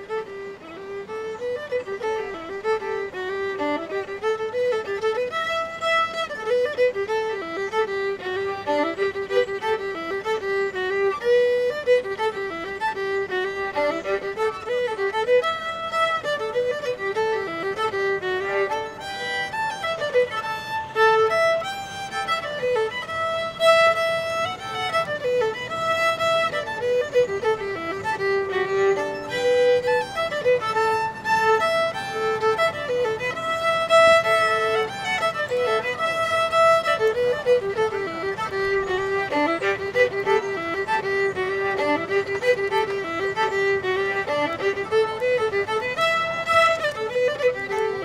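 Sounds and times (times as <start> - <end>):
fiddle playing a tune: 0.0 - 48.0.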